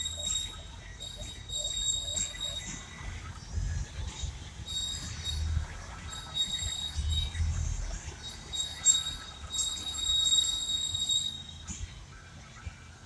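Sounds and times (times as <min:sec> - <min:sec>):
high-pitched whistling squeal: 0:00.0 - 0:12.0.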